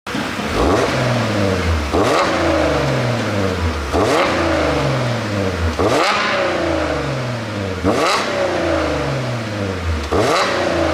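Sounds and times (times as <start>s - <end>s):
car engine revving: 0.1s - 10.9s.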